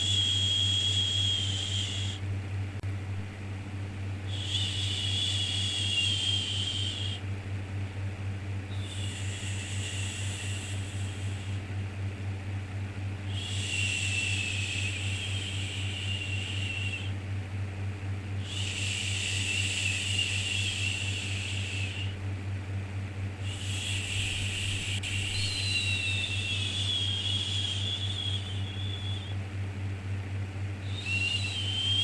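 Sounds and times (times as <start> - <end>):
low hum and hiss: 0.0 - 32.0.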